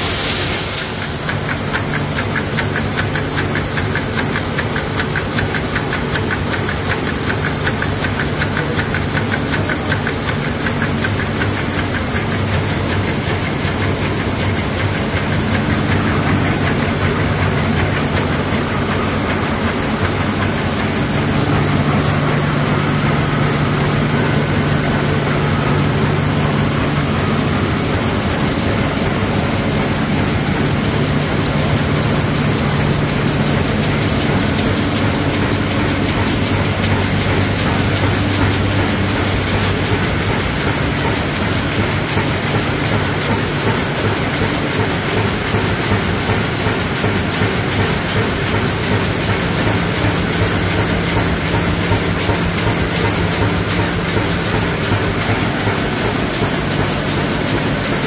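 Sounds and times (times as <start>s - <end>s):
printing press clattering hum: 0.0s - 58.0s.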